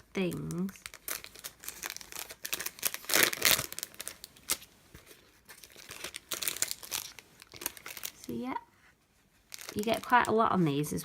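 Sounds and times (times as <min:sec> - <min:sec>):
packaging crinkling: 0:00.0 - 0:08.4, 0:09.4 - 0:10.4.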